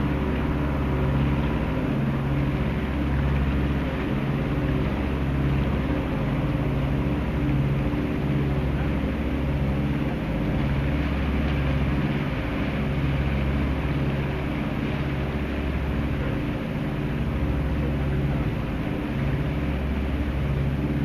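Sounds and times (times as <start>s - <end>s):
diesel engine humming: 0.0s - 21.0s
water rushing: 0.0s - 21.0s
wind: 0.0s - 21.0s.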